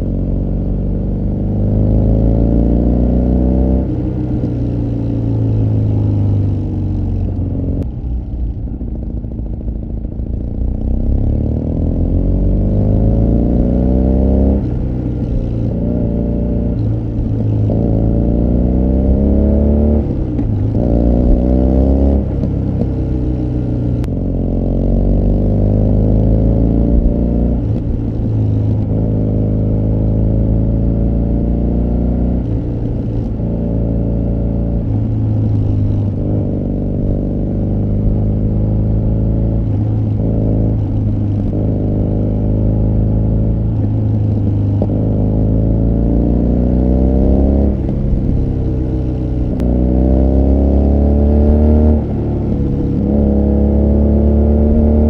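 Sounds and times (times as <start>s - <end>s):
motorcycle engine shifting gears: 0.0s - 55.0s.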